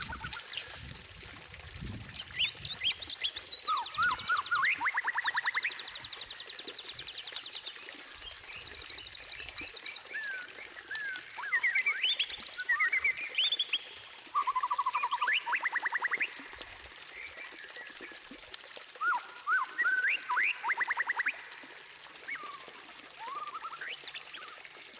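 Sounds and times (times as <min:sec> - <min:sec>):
bird singing trills and whistles: 0:00.0 - 0:00.8, 0:02.1 - 0:07.5, 0:08.2 - 0:24.9.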